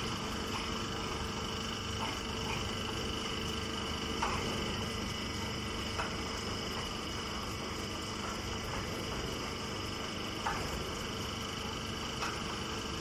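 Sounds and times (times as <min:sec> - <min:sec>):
high steady whine: 0:00.0 - 0:13.0
machinery humming: 0:00.0 - 0:13.0.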